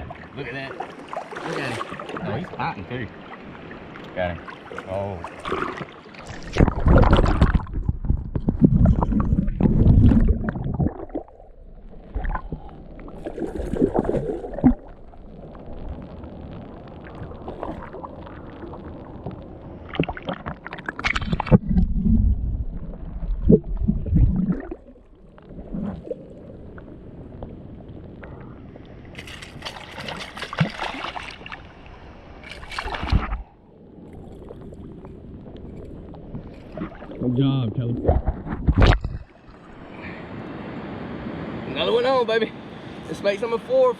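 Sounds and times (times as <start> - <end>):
water splashing and sloshing: 0.0 - 40.4.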